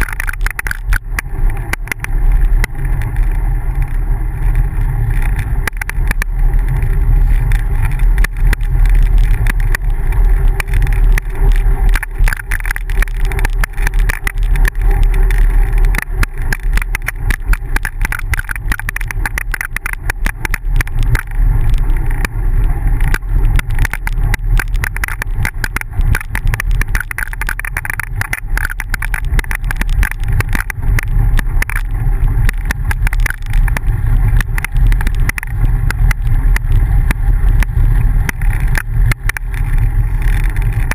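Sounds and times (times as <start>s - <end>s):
fine rattling clicks: 0.0s - 40.9s
wind and road rumble: 0.0s - 40.9s.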